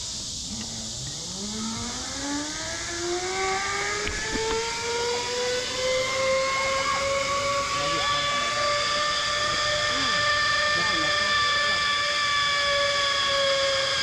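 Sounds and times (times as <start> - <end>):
zip line pulleys whining: 0.0 - 14.0.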